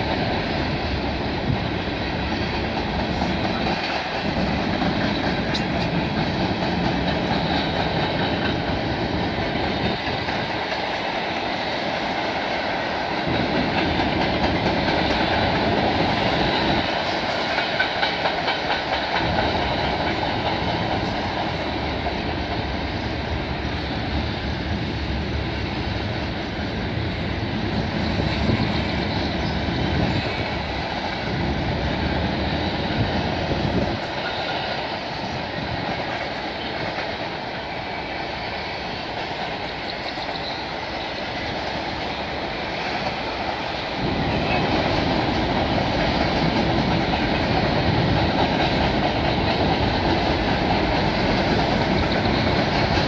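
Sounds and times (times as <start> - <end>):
train wheels clattering on bridge: 0.0 - 25.6, 26.4 - 53.0.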